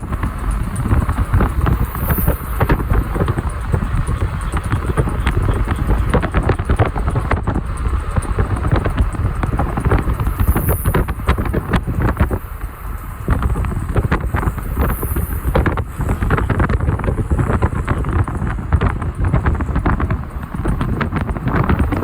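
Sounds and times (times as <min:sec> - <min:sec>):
vehicle rumble: 0:00.0 - 0:22.0
wind noise: 0:00.0 - 0:22.0.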